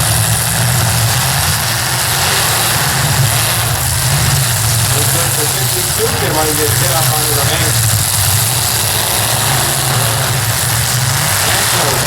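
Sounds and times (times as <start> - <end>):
car engines droning: 0.0 - 12.0
hiss: 0.0 - 12.0.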